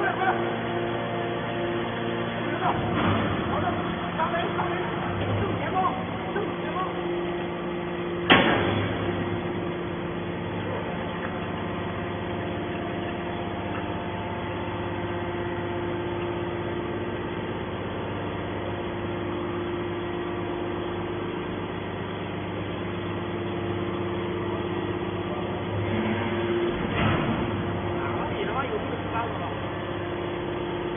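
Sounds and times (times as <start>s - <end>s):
hydraulic power unit hum: 0.0s - 30.9s.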